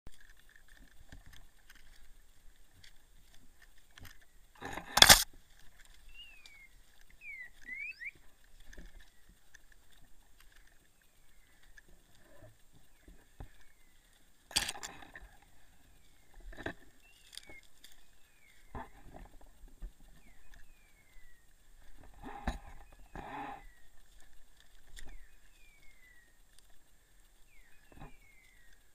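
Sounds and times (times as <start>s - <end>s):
rustling through undergrowth: 0.1s - 28.9s
small birds chirping: 5.5s - 28.9s.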